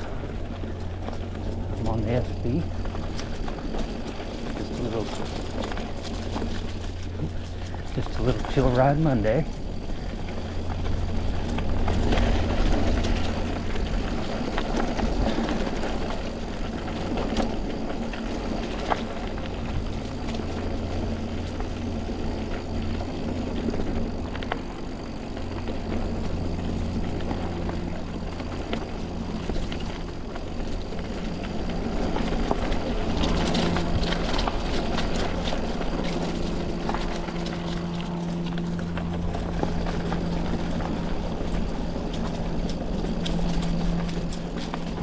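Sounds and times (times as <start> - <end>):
bike rattling and knocking: 0.0 - 45.0
bike tyres rolling on dirt: 0.0 - 45.0.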